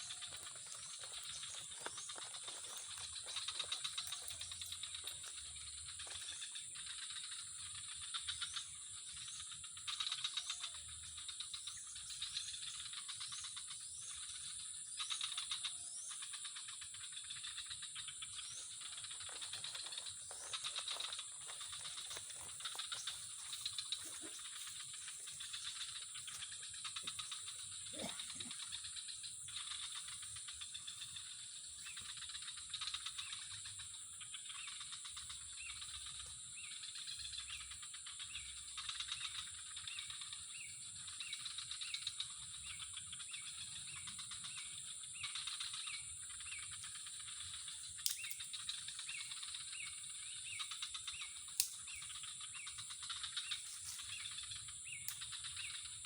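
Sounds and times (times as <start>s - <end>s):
insects droning: 0.0s - 56.0s
pulsing insect chirr: 0.0s - 56.0s.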